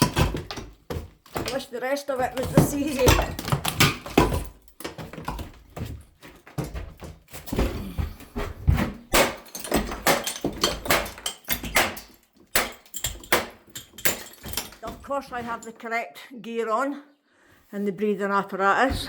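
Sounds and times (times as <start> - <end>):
hammer smashing tiles: 0.0 - 15.7.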